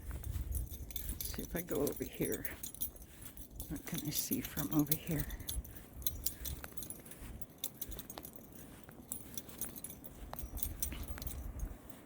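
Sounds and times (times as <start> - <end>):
wind buffeting microphone: 0.0 - 8.9, 9.7 - 12.0.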